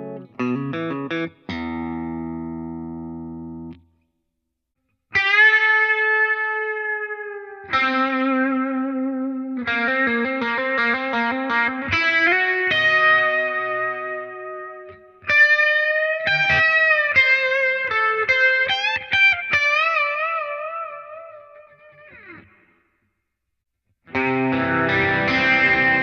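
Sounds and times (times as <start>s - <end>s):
electric guitar lead line: 0.0s - 3.8s, 5.1s - 22.7s, 24.1s - 26.0s.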